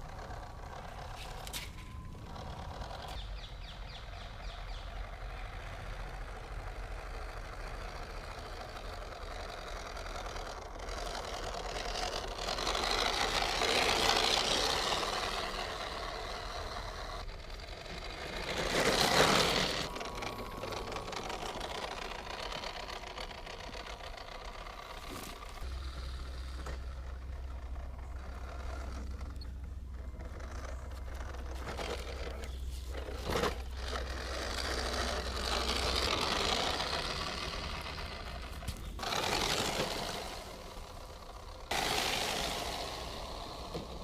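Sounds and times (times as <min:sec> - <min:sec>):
toy truck electric motor whining: 0:00.0 - 0:44.0.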